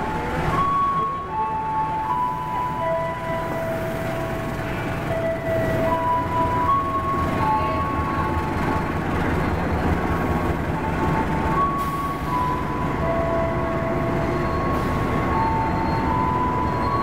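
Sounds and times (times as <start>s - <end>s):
brakes squealing: 0.0s - 17.0s
train rumbling on rails: 0.0s - 17.0s.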